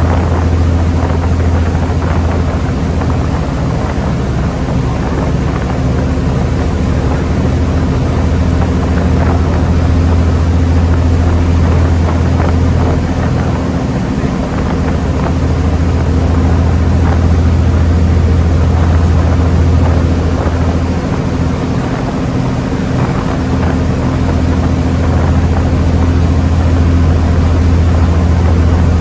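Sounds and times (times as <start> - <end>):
ferry engine drone: 0.0 - 29.0
rushing water: 0.0 - 29.0
wind noise: 0.0 - 29.0.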